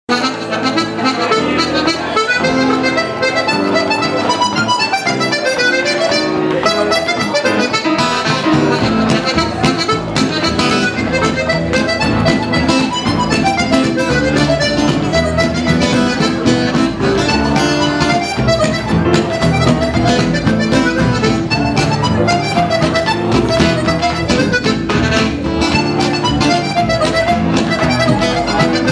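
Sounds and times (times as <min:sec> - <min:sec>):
acoustic guitar: 0:00.1 - 0:28.9
button accordion folk tune: 0:00.1 - 0:28.9
upright bass: 0:00.1 - 0:28.9
piano: 0:00.4 - 0:28.9.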